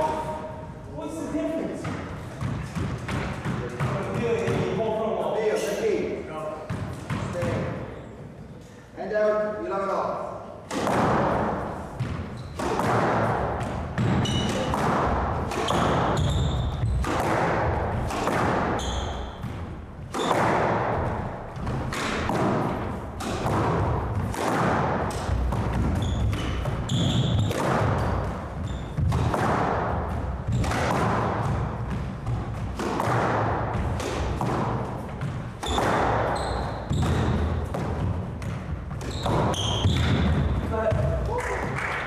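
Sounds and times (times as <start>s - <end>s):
ball hitting walls and wooden floor: 0.0s - 5.4s, 6.5s - 8.0s, 10.6s - 42.0s
racquet striking squash ball: 0.0s - 8.4s, 10.5s - 42.0s.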